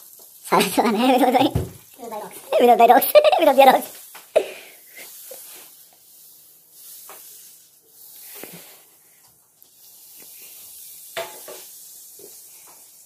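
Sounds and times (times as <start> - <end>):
frying pan hissing: 0.0 - 13.0.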